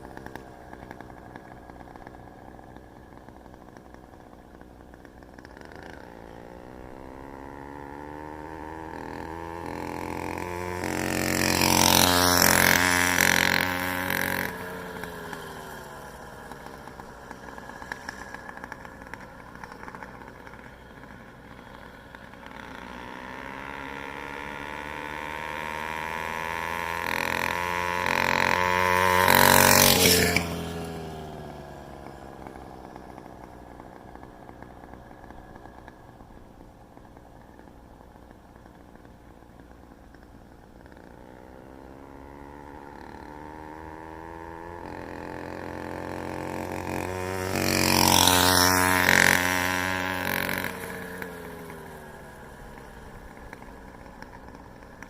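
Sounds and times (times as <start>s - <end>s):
small bicycle engine passing: 0.0s - 55.0s.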